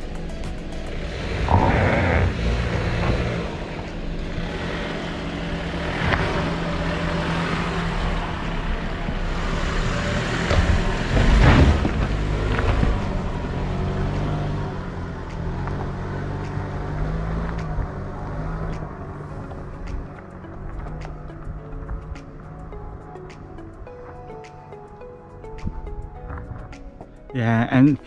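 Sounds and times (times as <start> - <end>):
car engine under load: 0.0 - 27.3.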